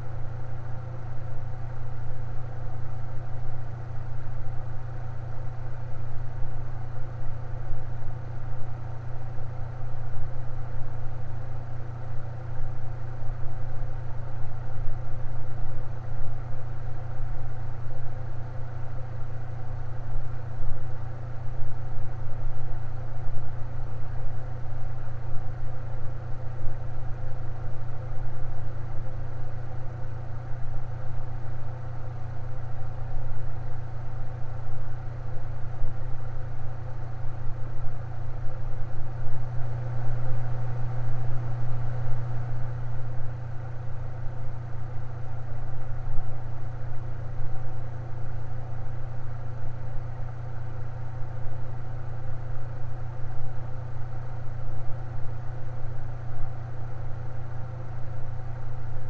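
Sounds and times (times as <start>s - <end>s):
electric fan humming: 0.0s - 59.0s.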